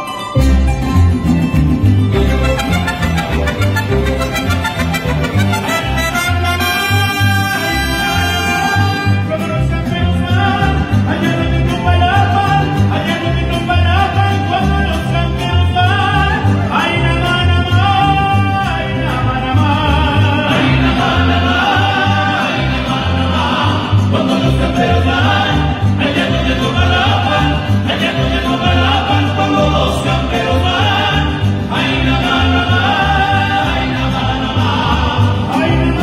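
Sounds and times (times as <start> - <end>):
mariachi band playing: 0.0 - 36.0
men singing: 2.2 - 36.0.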